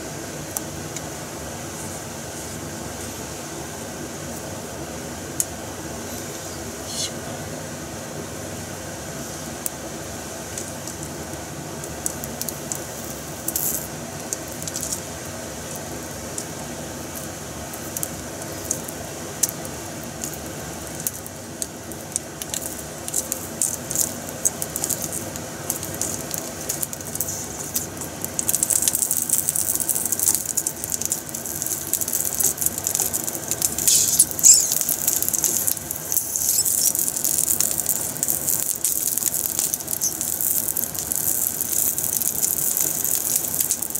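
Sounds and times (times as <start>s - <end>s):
sausages sizzling in oil: 8.6s - 43.9s.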